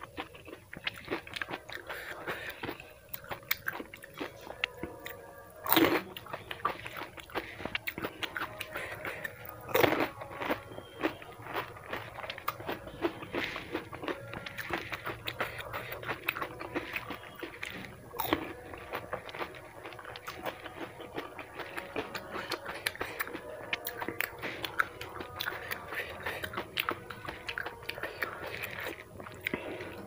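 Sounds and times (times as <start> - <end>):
person crunching and chewing food: 0.0 - 30.0.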